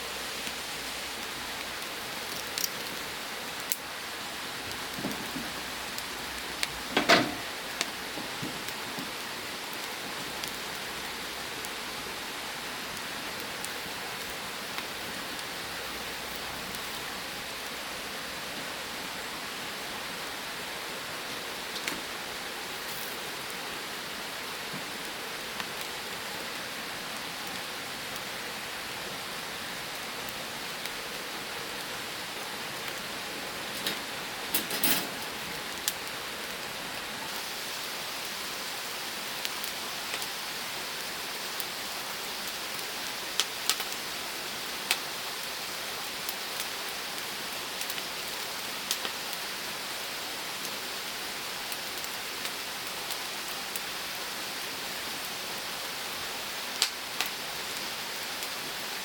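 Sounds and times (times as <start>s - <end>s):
wood fire crackling and popping: 0.3s - 17.9s, 21.2s - 59.0s.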